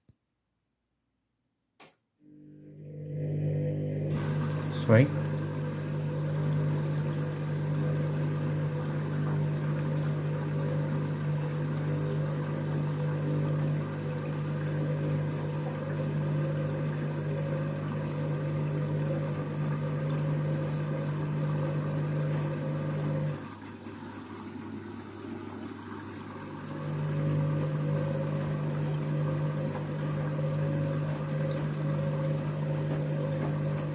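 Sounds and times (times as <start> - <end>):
washing machine humming: 2.2 - 33.9.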